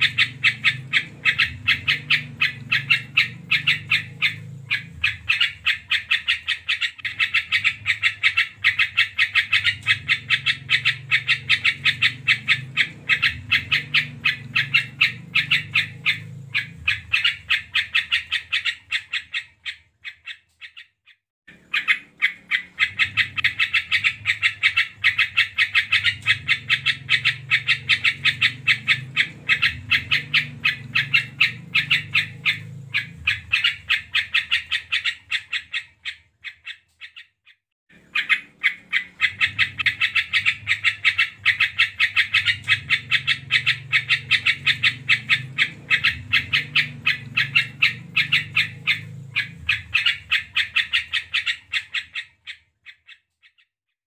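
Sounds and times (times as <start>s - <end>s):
bird chattering song: 0.0s - 53.8s.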